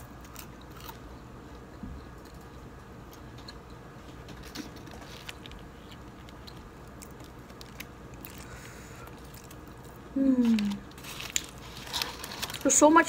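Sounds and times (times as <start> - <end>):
crunching and chewing food: 0.0 - 13.0.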